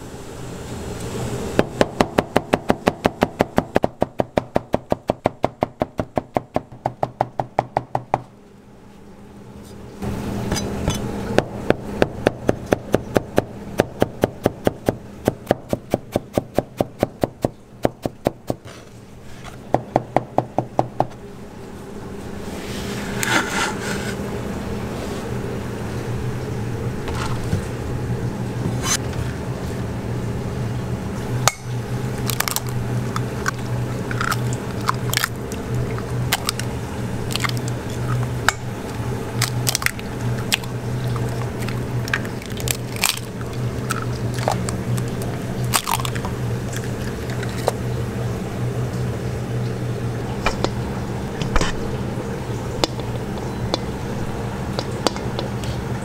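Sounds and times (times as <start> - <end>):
steady kitchen hum: 0.0 - 56.0.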